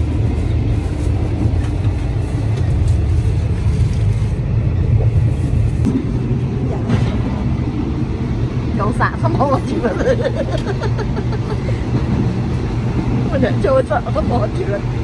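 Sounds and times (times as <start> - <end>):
train carriage rumbling: 0.0 - 15.0.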